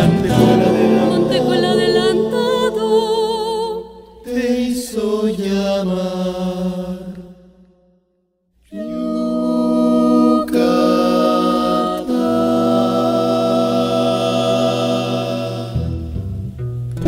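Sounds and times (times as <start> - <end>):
choir singing sustained chords: 0.0 - 8.0, 8.7 - 16.2.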